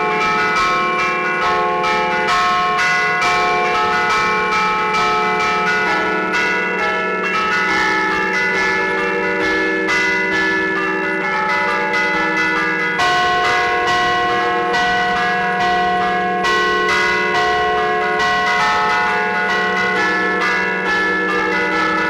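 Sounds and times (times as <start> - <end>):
hammers striking church bells: 0.0 - 22.0.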